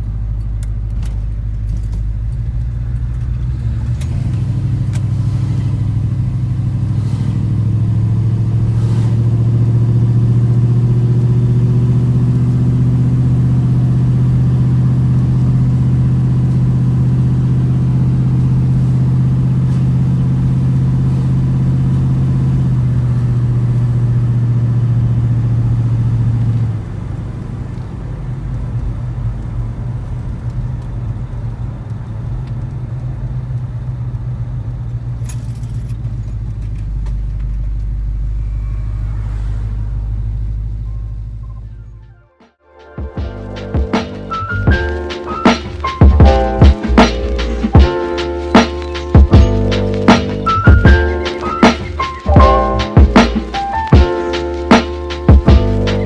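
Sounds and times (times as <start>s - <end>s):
engine running and idling: 0.0s - 42.3s, 43.2s - 56.0s.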